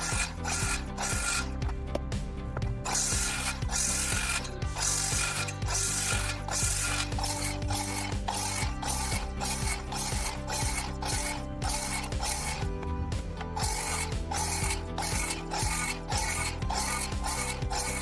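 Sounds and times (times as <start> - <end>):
circular saw cutting siding: 0.0 - 1.6, 2.8 - 18.0
background music: 0.0 - 18.0.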